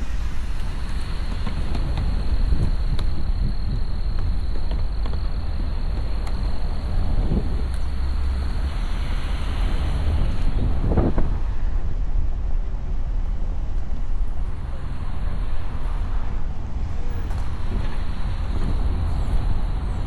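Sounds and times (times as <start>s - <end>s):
car road and engine rumble: 0.0s - 20.0s
wind buffeting microphone: 0.0s - 20.0s.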